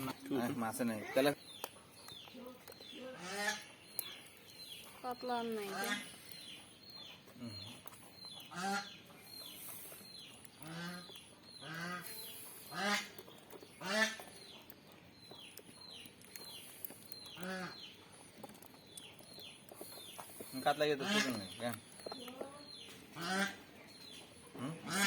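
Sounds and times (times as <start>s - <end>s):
high chirps of small birds: 0.0s - 25.0s.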